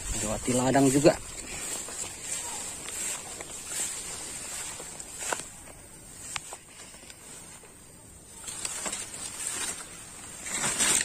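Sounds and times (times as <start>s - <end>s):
footsteps swishing through grass: 0.0s - 11.0s
steady high-pitched hiss: 0.0s - 11.0s.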